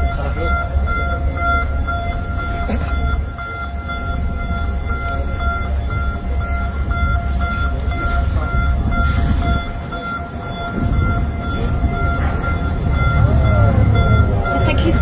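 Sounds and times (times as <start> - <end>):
beeping alarm tone: 0.0 - 15.0
heavy low rumble: 0.0 - 15.0.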